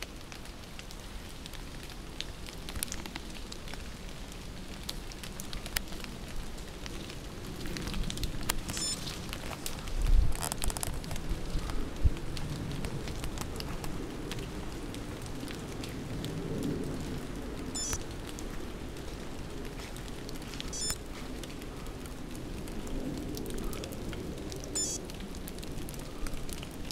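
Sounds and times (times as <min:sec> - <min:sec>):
raindrops ticking on leaves: 0:00.0 - 0:26.9
steady rain hiss: 0:00.0 - 0:26.9.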